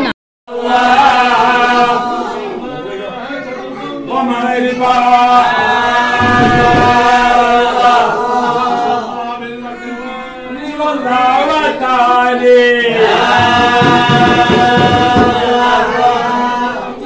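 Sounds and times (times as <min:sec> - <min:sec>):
men chanting in unison: 0:00.5 - 0:09.9, 0:10.6 - 0:17.0.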